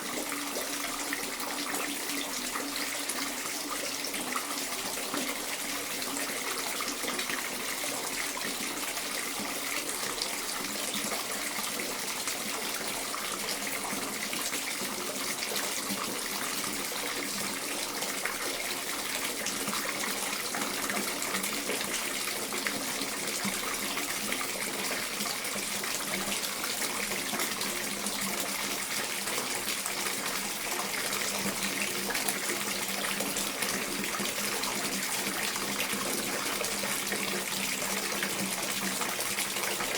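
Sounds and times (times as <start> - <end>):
water running into a bathtub: 0.0 - 39.9.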